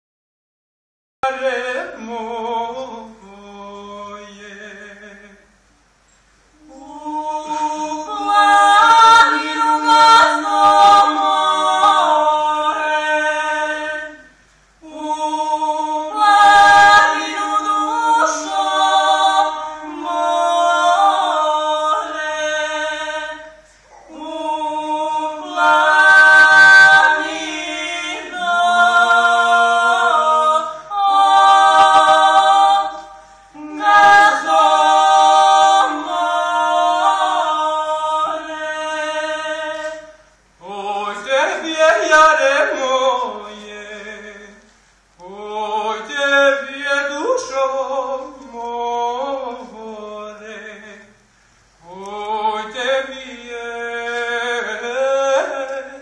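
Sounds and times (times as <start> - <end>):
a cappella trio singing folk song: 1.2 - 5.7, 6.5 - 56.0.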